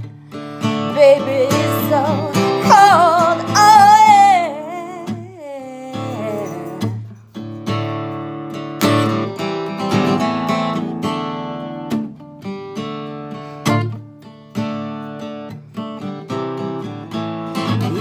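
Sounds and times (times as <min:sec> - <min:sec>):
acoustic guitar blues strumming: 0:00.0 - 0:18.0.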